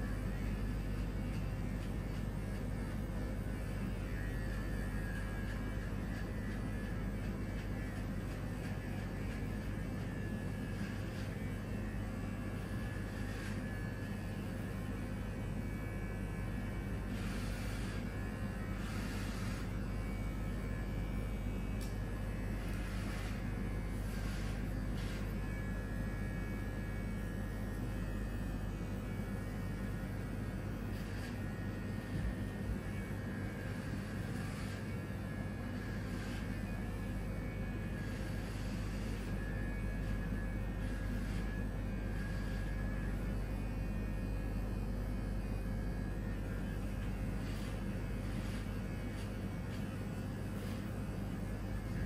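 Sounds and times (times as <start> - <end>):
electric hair clippers humming: 0.0 - 52.0.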